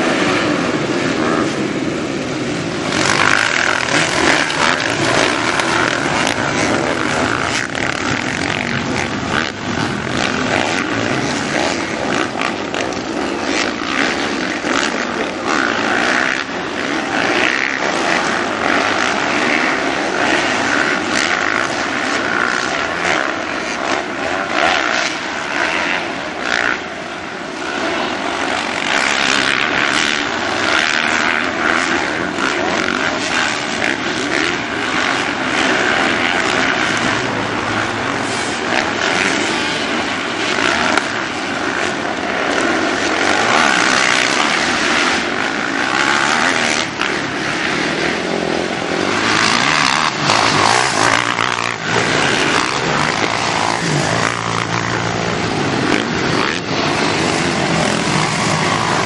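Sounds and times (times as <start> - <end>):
motocross bikes racing past: 0.0 - 59.0.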